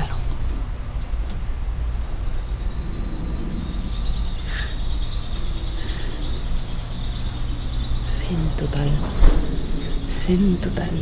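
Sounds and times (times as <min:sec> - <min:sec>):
crickets and insects trilling: 0:00.0 - 0:11.0
low steady rumble: 0:00.0 - 0:11.0.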